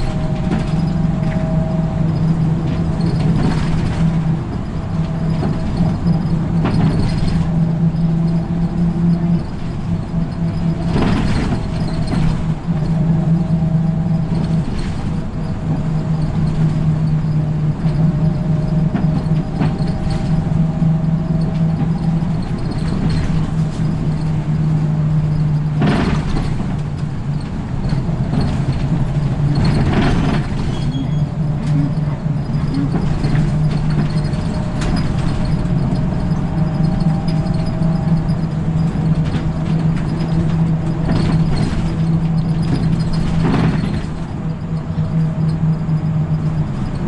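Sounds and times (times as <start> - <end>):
bus engine drone: 0.0 - 47.0
road and tyre noise: 0.0 - 47.0.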